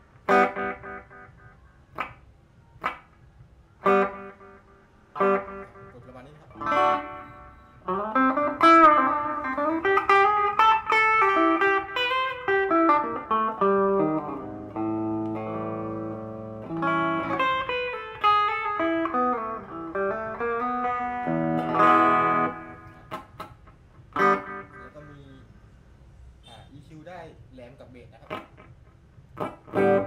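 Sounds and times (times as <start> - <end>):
electric guitar playing: 0.0 - 3.2, 3.8 - 25.3, 28.2 - 30.0.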